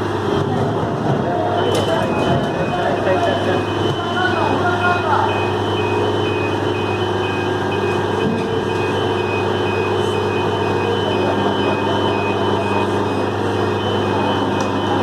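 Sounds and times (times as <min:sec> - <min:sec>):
heavy diesel engine running: 0:00.0 - 0:15.0
back-up alarm beeping: 0:01.3 - 0:15.0.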